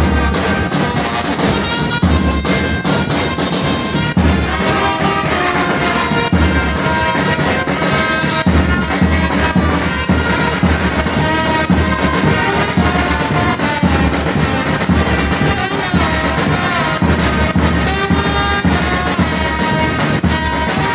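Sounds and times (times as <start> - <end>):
percussion steady beat: 0.0 - 20.9
trumpets playing melody: 0.0 - 20.9.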